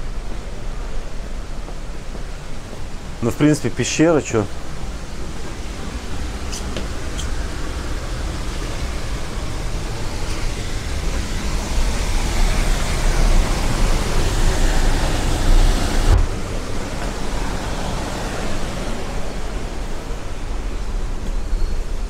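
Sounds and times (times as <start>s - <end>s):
waterfall roar: 0.0s - 22.0s.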